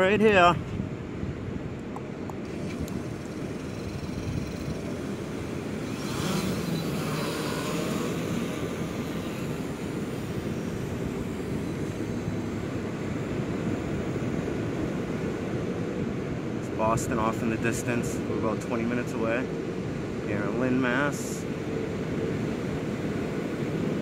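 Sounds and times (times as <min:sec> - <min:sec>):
steady low rush: 0:00.0 - 0:24.0
drone rotors humming: 0:01.1 - 0:24.0.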